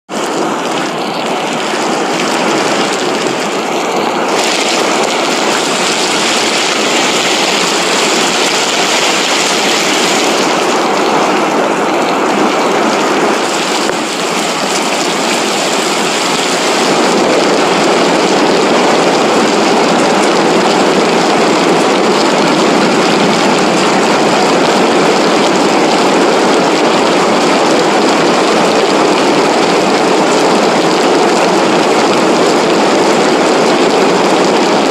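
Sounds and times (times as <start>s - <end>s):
floodwater rushing: 0.1s - 34.9s.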